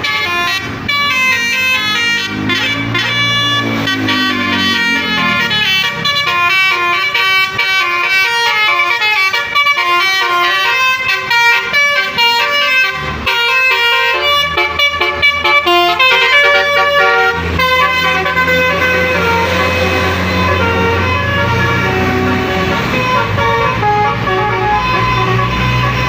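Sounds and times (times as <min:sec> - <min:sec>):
musical bus air horn melody: 0:00.0 - 0:26.0.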